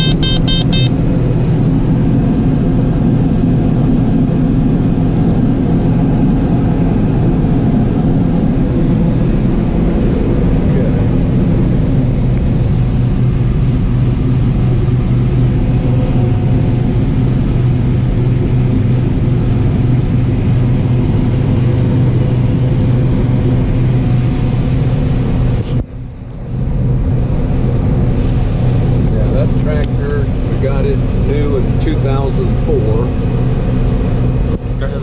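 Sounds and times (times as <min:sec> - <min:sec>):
combine harvester drone: 0:00.0 - 0:35.0.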